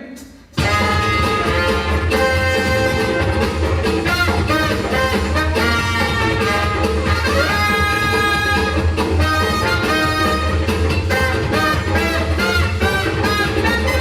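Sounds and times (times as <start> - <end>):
swing dance music with brass: 0.6 - 14.0.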